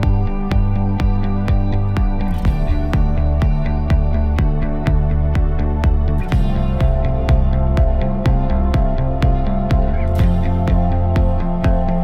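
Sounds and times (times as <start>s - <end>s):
electronic music with beat: 0.0s - 12.0s.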